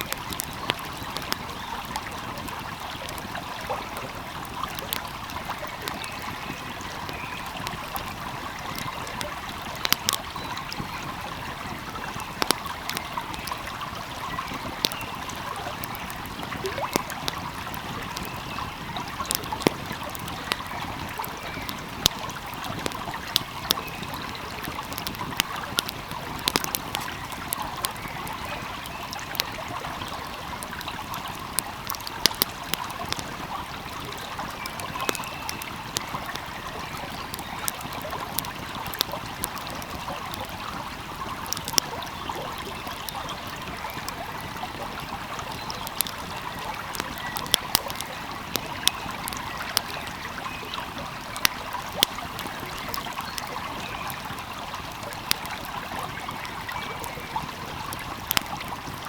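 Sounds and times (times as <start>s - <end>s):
stream flowing: 0.0s - 59.0s
wood fire crackling: 0.0s - 59.0s.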